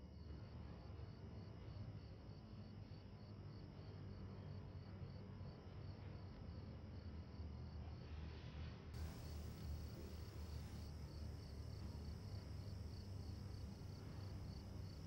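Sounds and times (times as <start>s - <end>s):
faint crickets chirping: 0.0s - 8.3s, 9.0s - 15.0s
low steady room hum: 0.0s - 15.0s.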